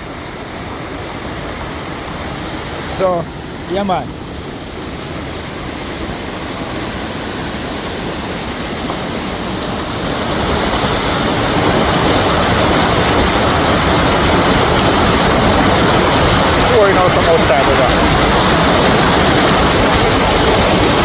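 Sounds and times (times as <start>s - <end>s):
spring water rushing: 0.0s - 21.0s.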